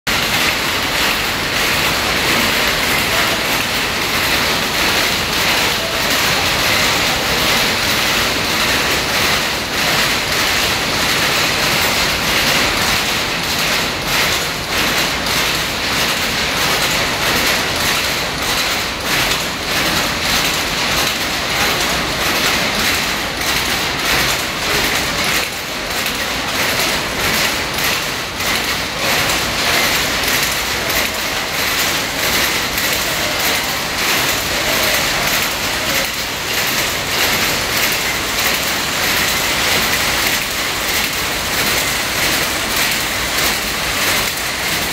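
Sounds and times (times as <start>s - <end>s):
power looms clattering: 0.1s - 44.9s.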